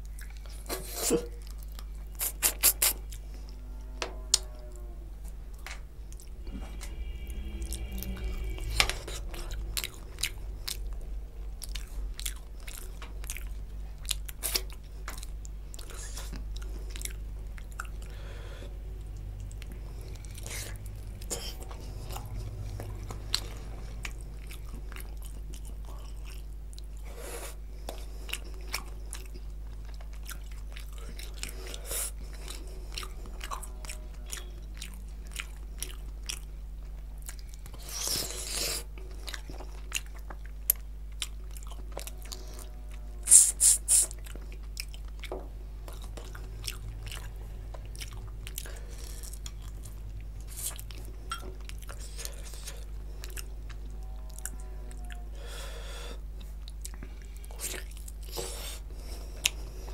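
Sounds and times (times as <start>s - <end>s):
close chewing and biting: 0.0s - 7.0s, 7.6s - 59.9s.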